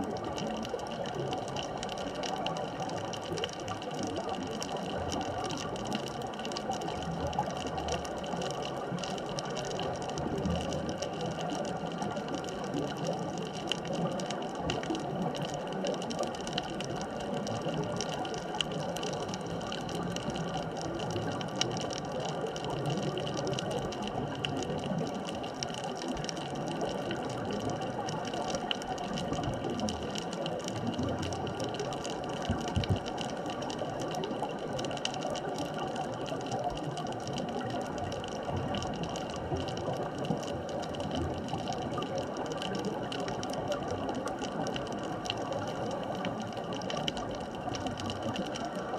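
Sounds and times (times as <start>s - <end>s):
crackle of fine clicks: 0.0s - 48.9s
underwater hum with tones: 0.0s - 48.9s.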